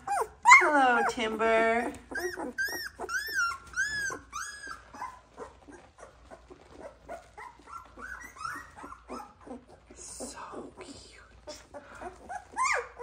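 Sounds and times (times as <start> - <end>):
puppies whimpering: 0.0 - 13.0.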